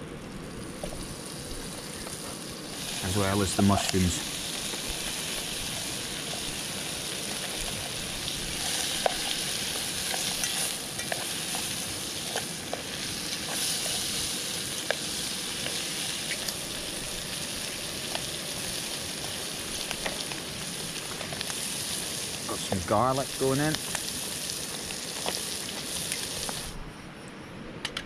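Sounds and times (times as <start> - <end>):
food sizzling in a pan: 0.0 - 26.8.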